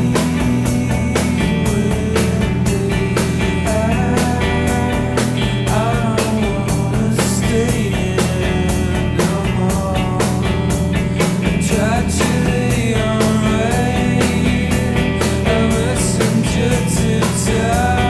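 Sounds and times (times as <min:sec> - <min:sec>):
wavering singing voice: 0:00.0 - 0:10.4, 0:11.6 - 0:18.0
drums: 0:00.0 - 0:18.0
guitar: 0:00.0 - 0:18.0
rock music: 0:00.0 - 0:18.0.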